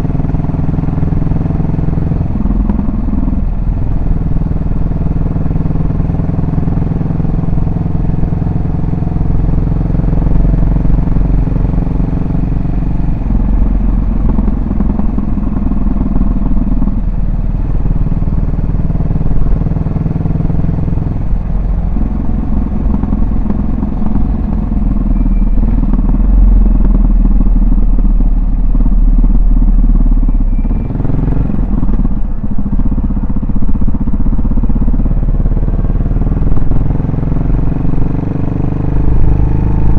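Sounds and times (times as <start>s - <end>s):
motorcycle engine and exhaust running: 0.0s - 39.9s.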